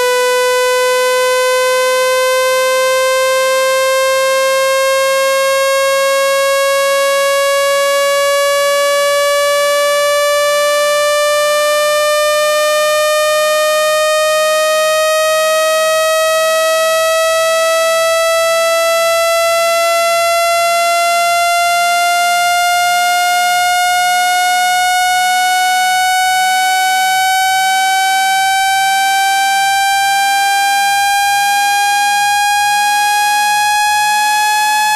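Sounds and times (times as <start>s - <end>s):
buzzy rising synthesized tone: 0.0s - 34.9s.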